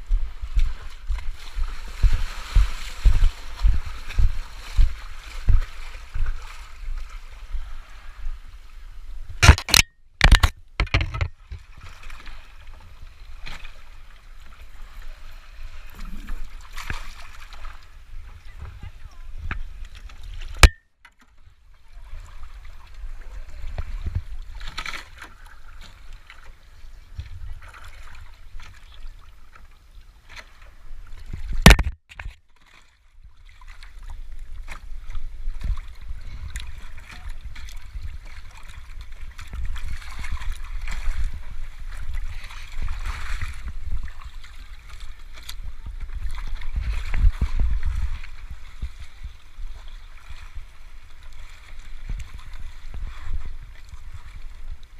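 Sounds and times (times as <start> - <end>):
water and wind rushing: 0.0 - 54.9.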